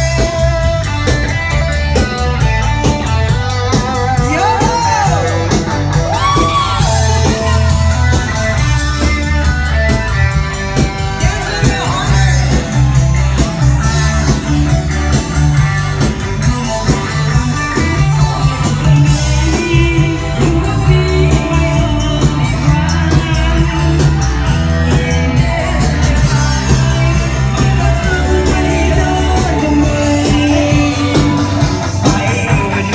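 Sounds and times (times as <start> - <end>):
person singing: 0.0 - 8.5, 10.8 - 15.4, 16.6 - 32.9
bass guitar: 0.0 - 32.9
drum kit: 0.0 - 32.9
electric guitar: 0.0 - 32.9.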